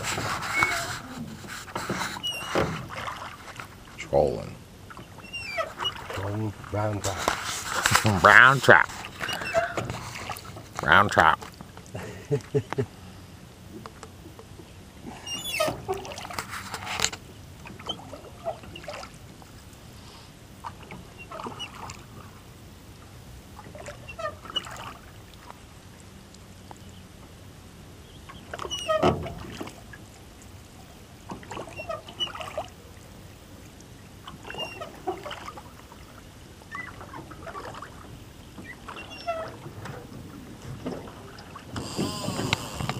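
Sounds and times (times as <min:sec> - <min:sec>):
oars dipping and swishing in water: 0:00.0 - 0:42.9.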